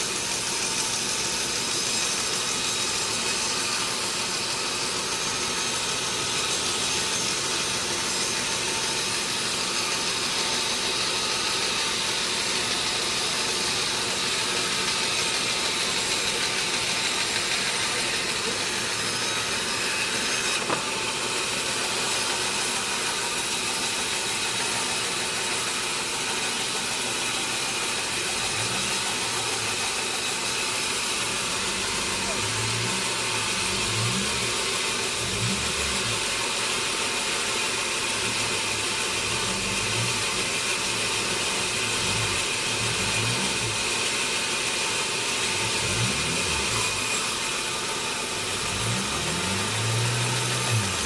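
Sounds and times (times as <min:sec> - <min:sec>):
saw cutting log: 0:00.0 - 0:51.0.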